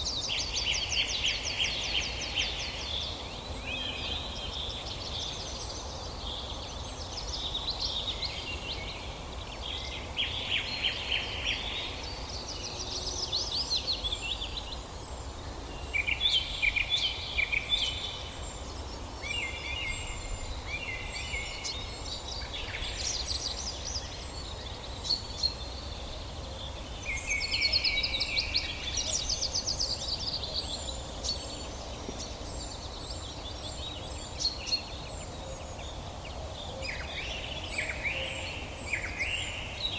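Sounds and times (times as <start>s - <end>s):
low background noise: 0.0s - 39.9s.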